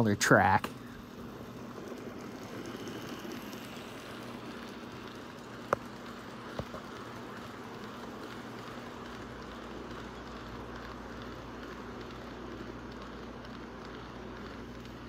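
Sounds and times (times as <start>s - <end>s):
faint constant hum: 0.0s - 15.0s
model train motors whirring: 0.0s - 15.0s.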